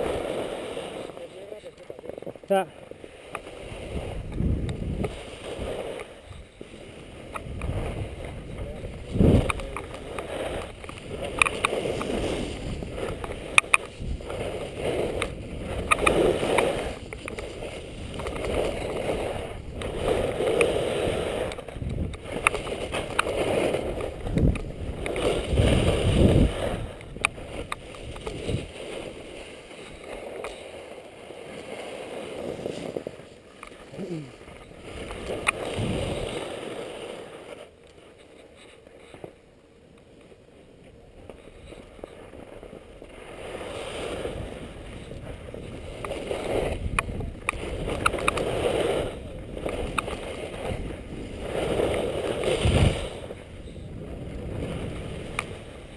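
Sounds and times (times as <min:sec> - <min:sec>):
skis scraping on snow: 0:00.0 - 0:55.9.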